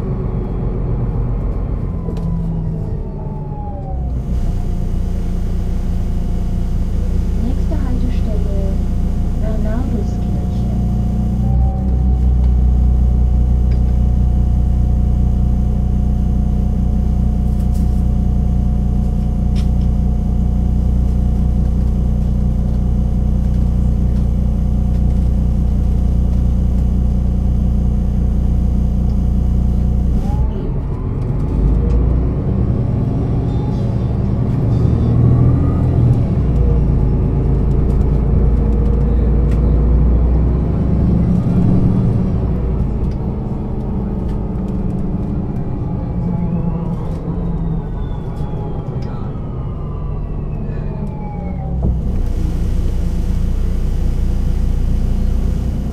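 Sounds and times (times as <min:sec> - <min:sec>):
bus diesel engine: 0:00.0 - 0:55.9.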